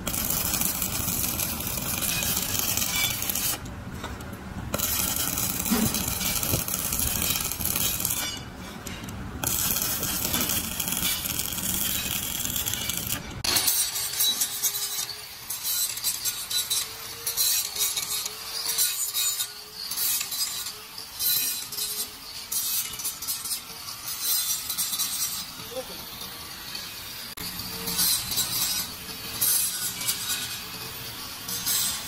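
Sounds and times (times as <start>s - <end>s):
angle grinder whining on steel: 0.0s - 32.0s
welding arc crackling: 0.0s - 32.0s.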